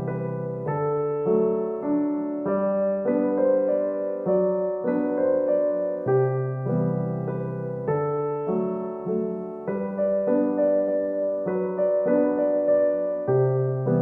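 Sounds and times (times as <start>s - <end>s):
solo piano piece: 0.0s - 14.0s.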